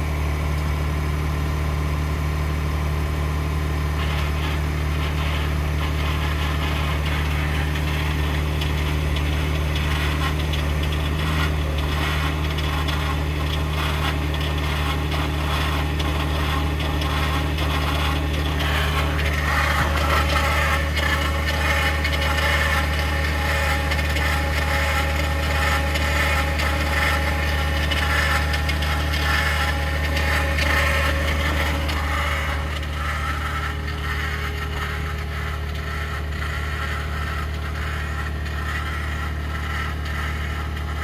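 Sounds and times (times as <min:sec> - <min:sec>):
truck engine drone: 0:00.0 - 0:41.0
rough grinding rasping noise: 0:03.7 - 0:41.0.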